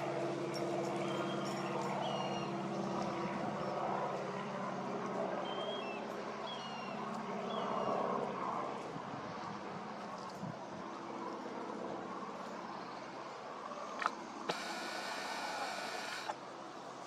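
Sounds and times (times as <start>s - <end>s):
steady engine hum: 0.0s - 17.0s.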